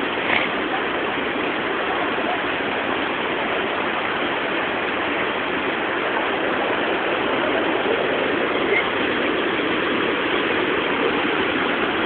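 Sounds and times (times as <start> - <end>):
river water pouring over rocks: 0.0 - 12.0.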